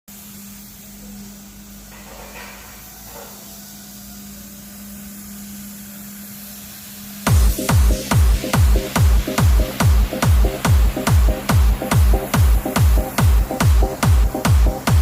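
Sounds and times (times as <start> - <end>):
constant hiss: 0.1 - 15.0.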